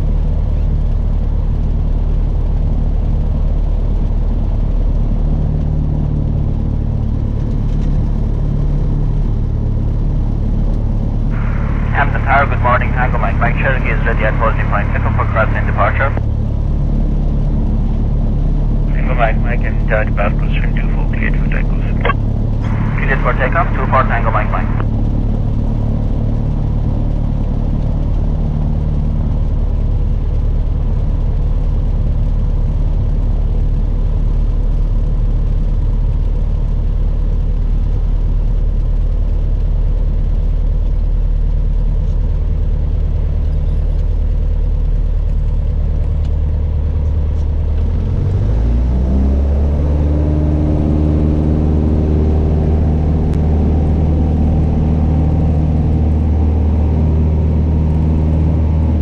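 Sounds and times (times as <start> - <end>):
light aircraft engine droning: 0.0 - 59.0.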